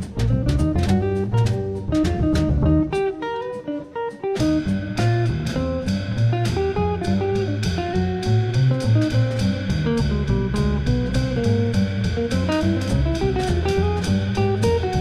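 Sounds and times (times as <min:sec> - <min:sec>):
jazz trio playing swing: 0:00.0 - 0:15.0
plucked guitar line: 0:00.0 - 0:15.0.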